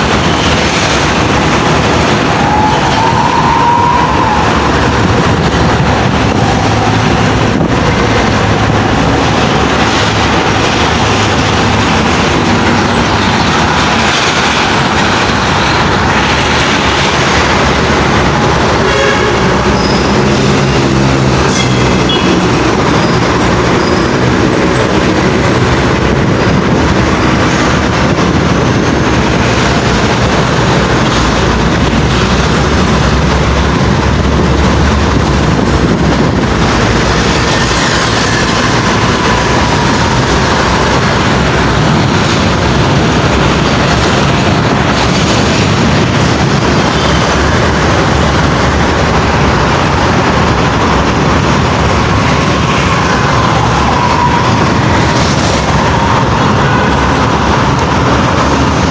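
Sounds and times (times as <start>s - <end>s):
heavy trucks driving past: 0.0s - 58.9s.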